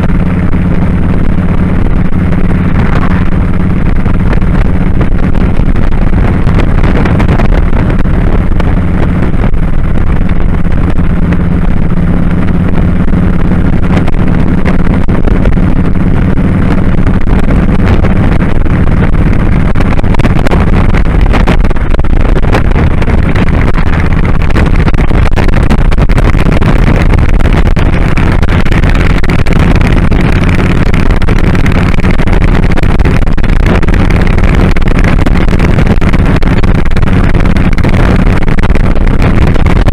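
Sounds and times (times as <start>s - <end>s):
motorcycle engine running: 0.0s - 39.9s
rush of riding wind: 0.0s - 39.9s.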